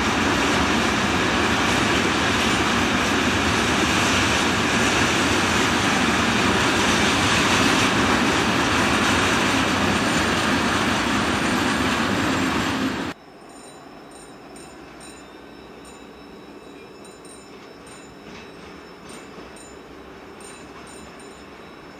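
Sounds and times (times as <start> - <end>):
freight train wheels rumbling on rails: 0.0 - 21.9.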